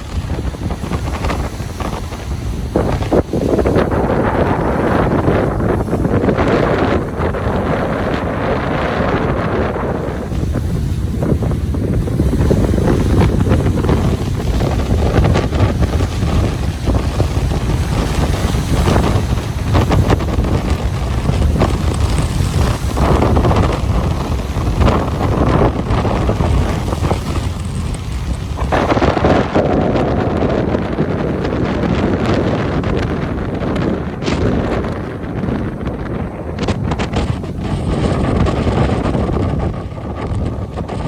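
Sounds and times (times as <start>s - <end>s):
ocean surf washing on beach: 0.0s - 41.0s
wind buffeting microphone: 0.0s - 41.0s.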